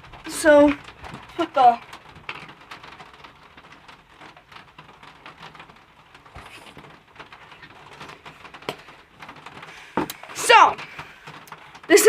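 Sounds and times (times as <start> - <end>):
slime clicking and crackling: 0.0 - 12.0.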